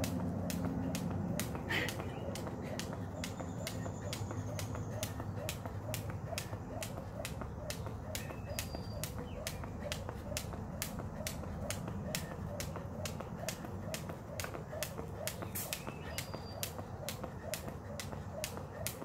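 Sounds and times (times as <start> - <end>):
jump rope slapping concrete: 0.0 - 19.0.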